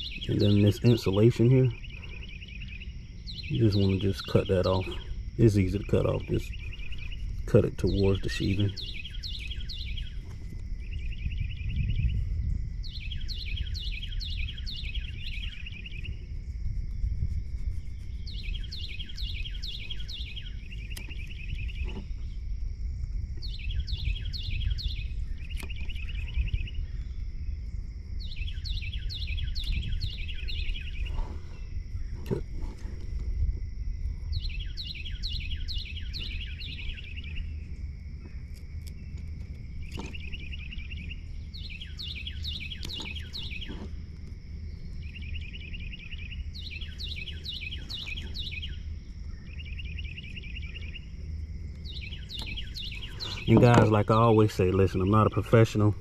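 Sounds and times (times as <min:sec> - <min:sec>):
songbird singing: 0:00.0 - 0:56.0
steady high hum: 0:00.0 - 0:56.0
low rumble: 0:04.8 - 0:54.2.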